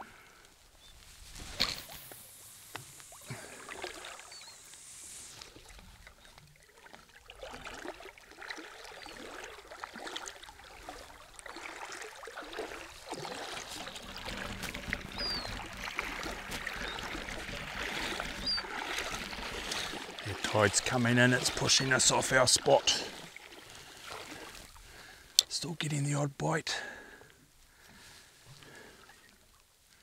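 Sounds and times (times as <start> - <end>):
shallow water washing and trickling: 0.0 - 25.7.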